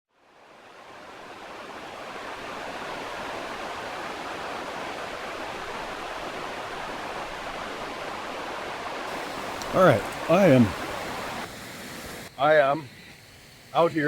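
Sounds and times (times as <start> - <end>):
creek water rushing over rocks: 0.2 - 12.3.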